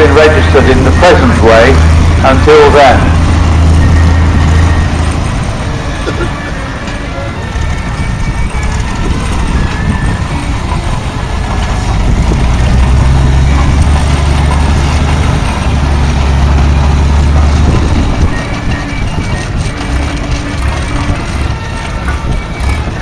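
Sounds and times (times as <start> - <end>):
diesel engine running: 0.0 - 23.0
outdoor background noise: 0.0 - 23.0.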